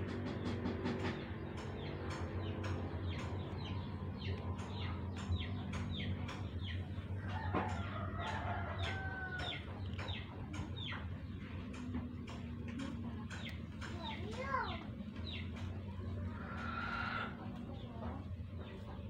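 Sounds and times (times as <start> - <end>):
chickens peeping: 0.1 - 19.0.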